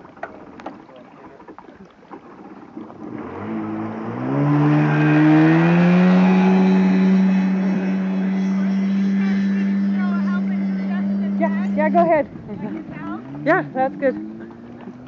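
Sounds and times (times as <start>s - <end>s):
jet ski engine revving: 2.7s - 15.0s.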